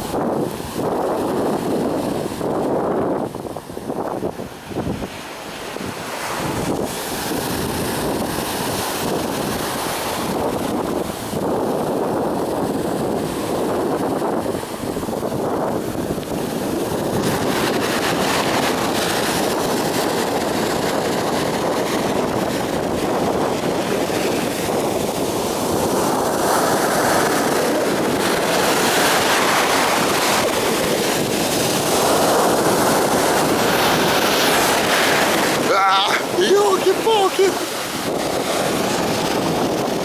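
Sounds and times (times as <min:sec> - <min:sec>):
rough surf breaking on shore: 0:00.0 - 0:40.0
wind buffeting microphone: 0:00.0 - 0:40.0.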